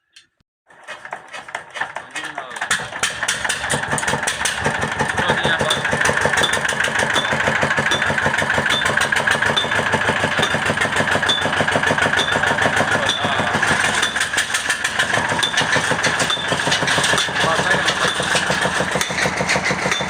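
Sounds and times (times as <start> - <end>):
stationary diesel engine knocking: 0.7 - 20.0
sharp engine tick: 3.0 - 20.0.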